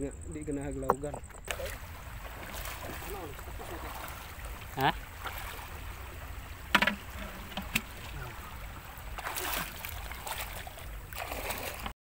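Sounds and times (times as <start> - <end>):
water sloshing from wading: 0.9 - 11.9
short loud splashes: 1.5 - 11.9.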